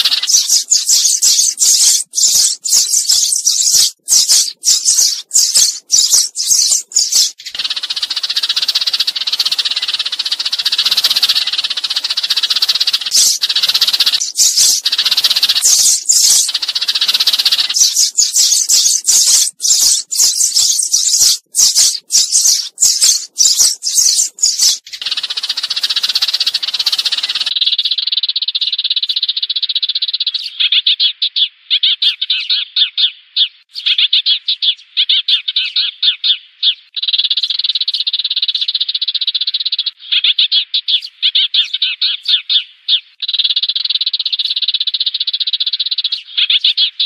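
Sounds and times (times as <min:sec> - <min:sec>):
sparrows chirping: 0:00.0 - 0:47.0
sparrows trilled chattering: 0:00.0 - 0:47.0.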